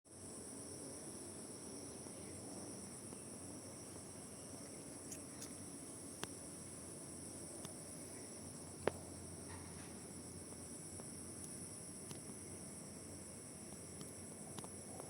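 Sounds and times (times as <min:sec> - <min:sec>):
insects trilling: 0:00.1 - 0:15.0.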